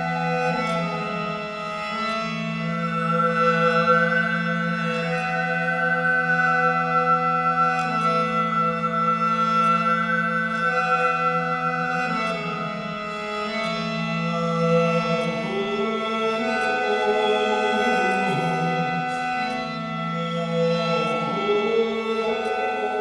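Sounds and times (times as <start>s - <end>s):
low drone of held tones: 0.0s - 23.0s.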